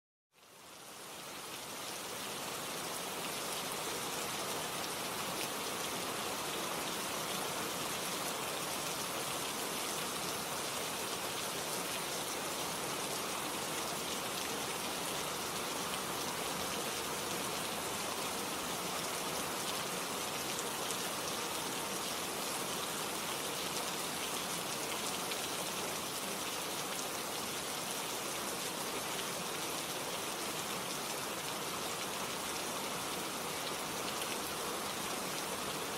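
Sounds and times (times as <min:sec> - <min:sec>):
steady rain hiss: 0:00.4 - 0:35.9.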